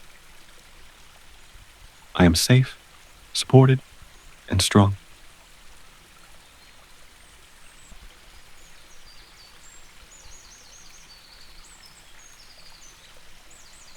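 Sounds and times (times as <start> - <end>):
babbling brook: 0.0 - 13.9.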